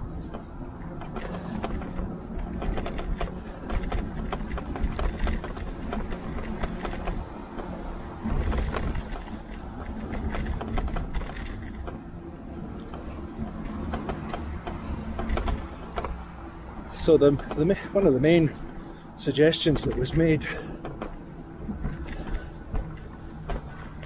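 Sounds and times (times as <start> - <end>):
bike rattles and clicks: 0.0 - 24.0
bike rolling rumble: 0.0 - 24.0.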